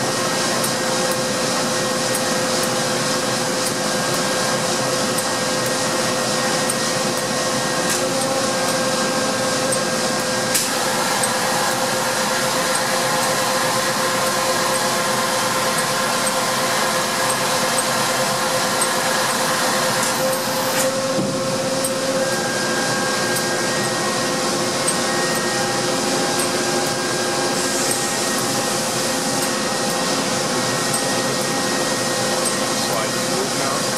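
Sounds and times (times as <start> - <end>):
lathe humming and whining: 0.0 - 33.9.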